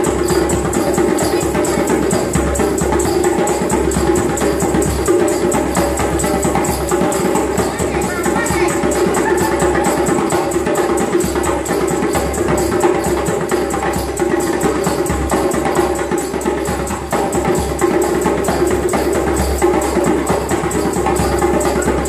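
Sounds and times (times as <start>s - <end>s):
djembe drumming: 0.0s - 22.0s.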